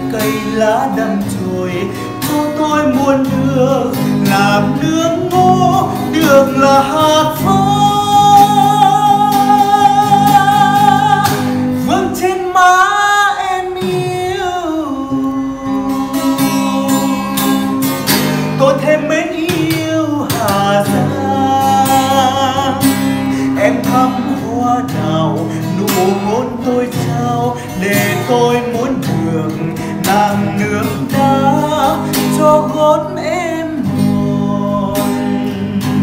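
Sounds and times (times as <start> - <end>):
acoustic guitar strumming: 0.0 - 36.0
man singing: 0.0 - 36.0.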